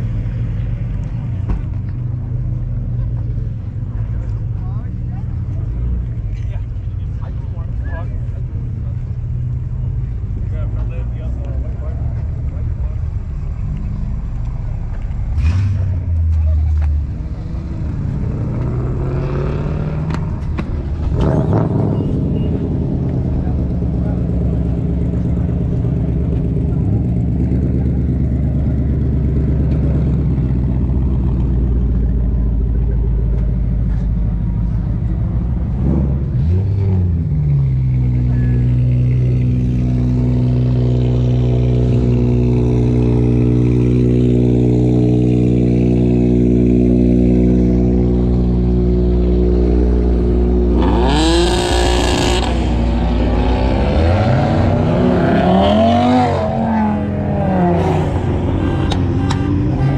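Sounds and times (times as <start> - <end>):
car engines running: 0.0 - 59.9
car engine revving: 5.1 - 59.9.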